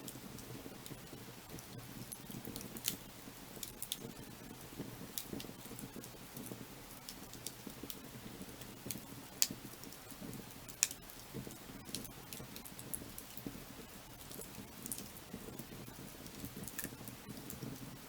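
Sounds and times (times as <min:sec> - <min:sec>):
firewood crackling and popping: 0:00.0 - 0:18.0
low rumble of flames: 0:00.0 - 0:18.0.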